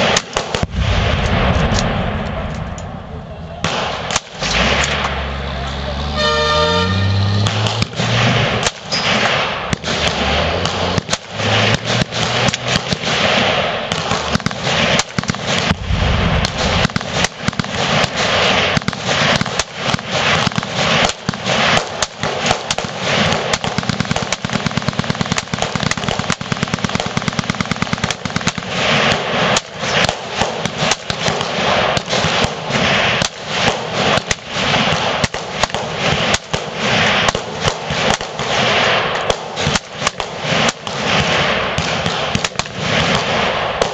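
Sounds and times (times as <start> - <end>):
rifles firing barrage: 0.0 - 5.6, 7.4 - 43.9.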